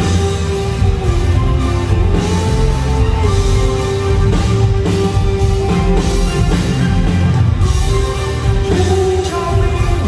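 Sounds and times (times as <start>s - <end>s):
drums: 0.0s - 10.0s
guitar: 0.0s - 10.0s.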